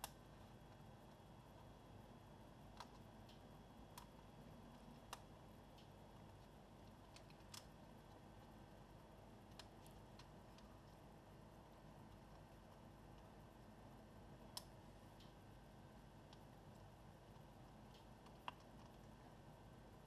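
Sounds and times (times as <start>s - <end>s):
small clicks and ticks: 0.0s - 20.0s
steady low hiss: 0.0s - 20.0s.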